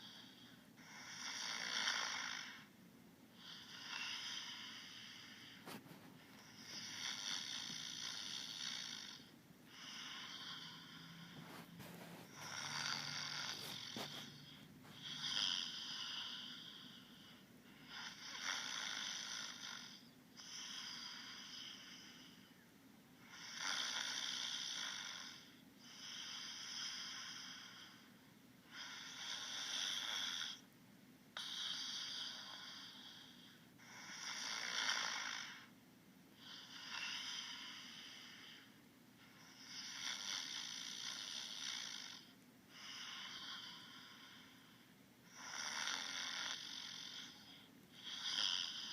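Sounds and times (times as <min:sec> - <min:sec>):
person snoring: 0:00.0 - 0:02.7, 0:03.4 - 0:22.4, 0:23.2 - 0:28.1, 0:28.7 - 0:30.6, 0:31.4 - 0:35.7, 0:36.4 - 0:38.7, 0:39.4 - 0:44.7, 0:45.3 - 0:48.9.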